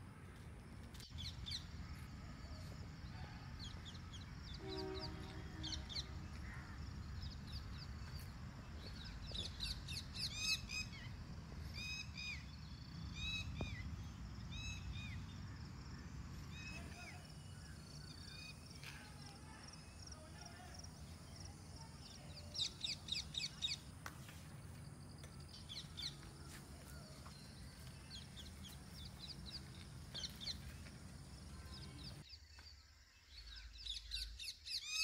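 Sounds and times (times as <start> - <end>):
birds chirping: 3.2 - 34.6.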